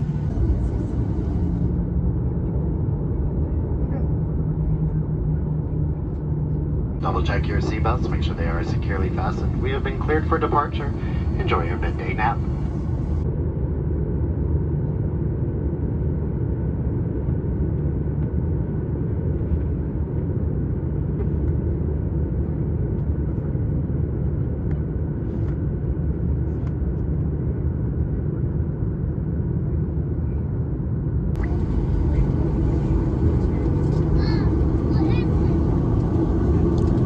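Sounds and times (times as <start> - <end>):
jet engines rumbling in cabin: 0.0 - 37.0.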